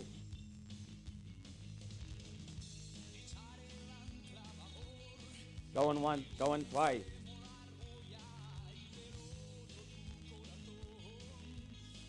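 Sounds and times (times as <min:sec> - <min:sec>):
quiet rock music with singing: 0:00.0 - 0:12.0.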